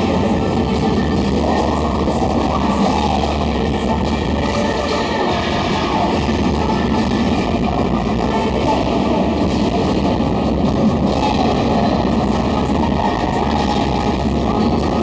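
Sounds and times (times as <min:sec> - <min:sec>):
crowd noise: 0:00.0 - 0:15.0
loud music from sound system: 0:00.0 - 0:15.0.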